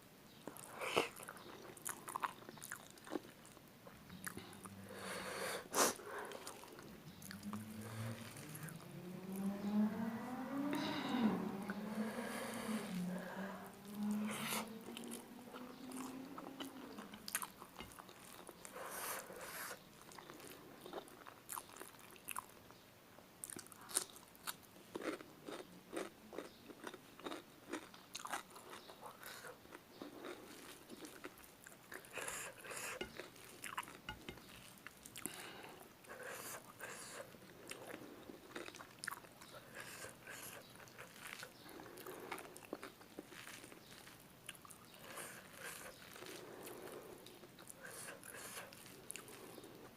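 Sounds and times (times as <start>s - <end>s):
chewing and crunching: 0.4s - 4.8s, 6.0s - 8.8s, 13.9s - 22.8s, 23.4s - 49.9s.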